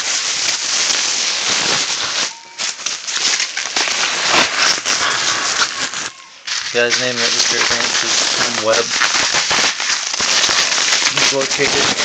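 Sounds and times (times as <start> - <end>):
packaging wrap crinkling: 0.0 - 12.0.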